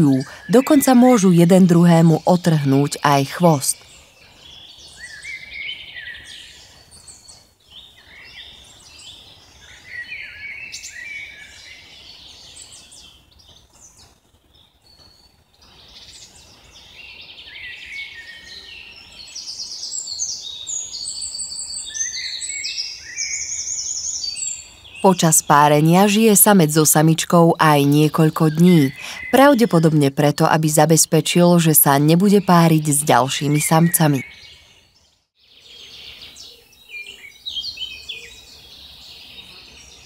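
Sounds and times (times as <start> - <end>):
songbirds singing and chirping: 0.0 - 40.0.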